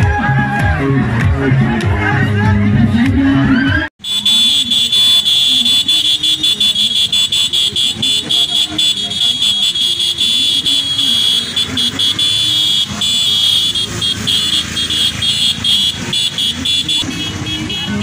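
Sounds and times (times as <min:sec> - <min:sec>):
motorcycles running: 0:00.0 - 0:18.0.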